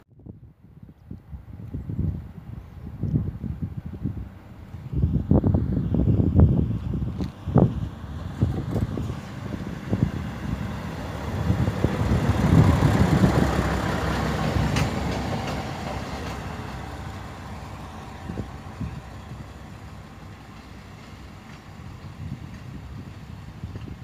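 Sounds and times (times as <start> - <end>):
train rumbling past: 2.2 - 24.0.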